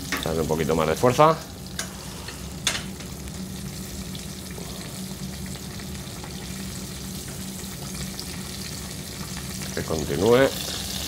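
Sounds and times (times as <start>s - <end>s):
fish sizzling in a frying pan: 0.0s - 11.0s
low steady hum: 0.0s - 11.0s.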